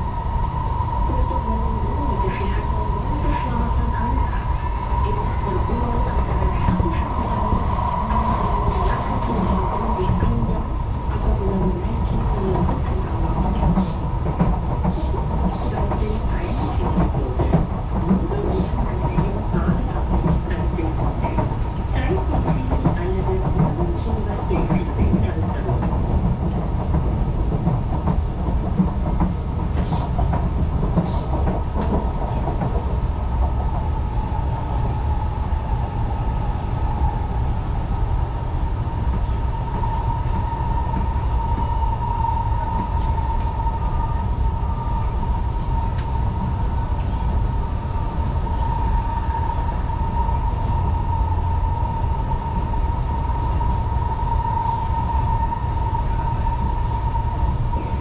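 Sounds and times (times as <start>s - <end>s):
train high whine: 0.0s - 58.0s
train rumble: 0.0s - 58.0s.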